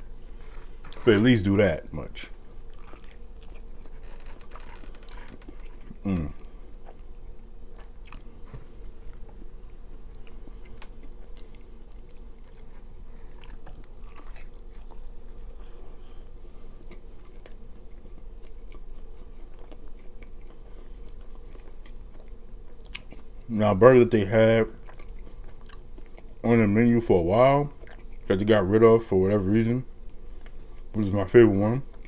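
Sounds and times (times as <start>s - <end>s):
person chewing food: 0.0s - 1.4s, 2.3s - 23.5s, 24.8s - 26.4s, 27.7s - 28.3s, 30.1s - 31.0s.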